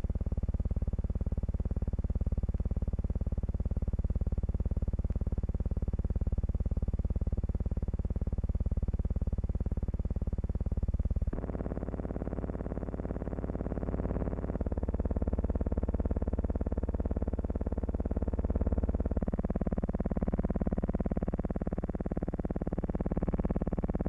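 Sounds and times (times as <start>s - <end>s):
pulsing low hum: 0.0s - 24.0s.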